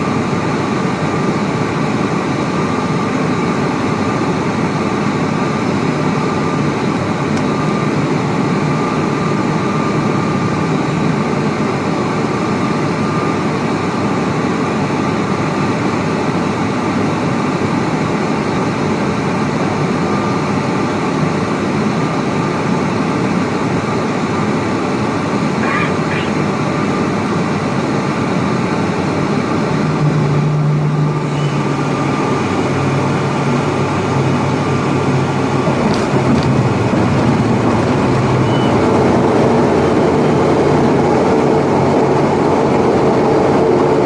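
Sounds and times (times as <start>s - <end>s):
turboprop engines rumbling: 0.0s - 44.0s.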